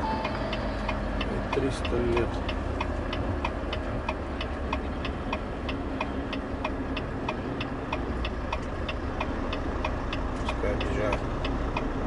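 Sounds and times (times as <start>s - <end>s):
diesel engine humming: 0.0s - 12.0s
flasher relay ticking: 0.1s - 12.0s.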